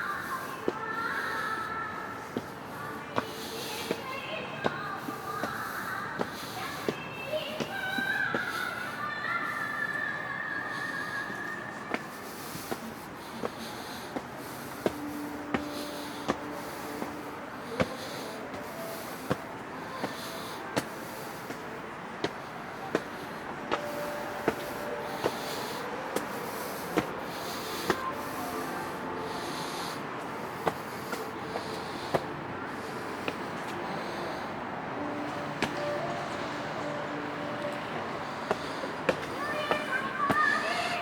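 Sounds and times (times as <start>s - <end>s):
footsteps on hard trail: 2.2s - 8.6s, 11.3s - 35.9s, 38.2s - 40.6s.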